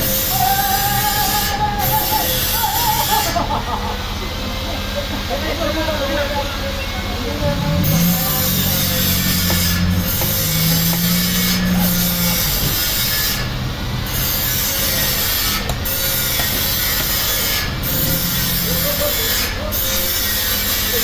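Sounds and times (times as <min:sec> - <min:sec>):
saw cutting wood: 0:00.0 - 0:03.8, 0:07.6 - 0:21.0
sawmill engine running: 0:00.0 - 0:21.0.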